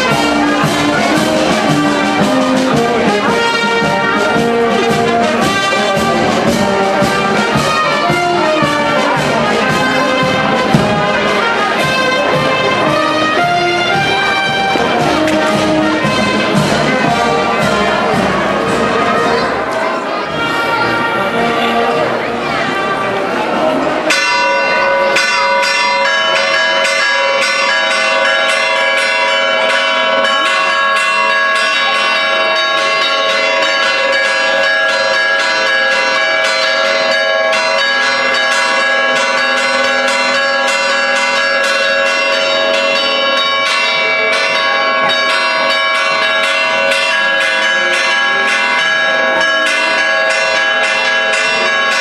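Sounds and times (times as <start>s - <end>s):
church bells pealing: 0.0s - 52.0s.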